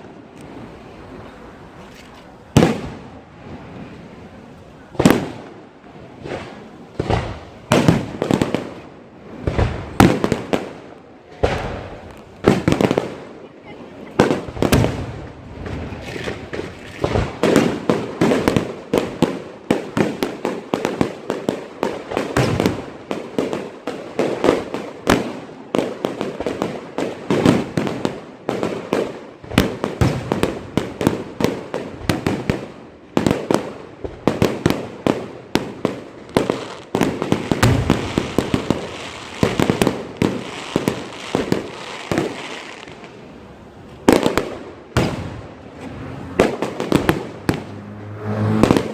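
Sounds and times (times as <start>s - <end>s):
fireworks banging: 0.0s - 48.9s.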